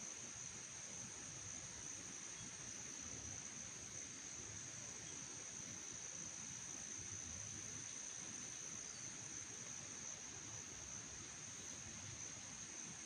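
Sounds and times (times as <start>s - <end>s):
crickets trilling: 0.1s - 13.0s.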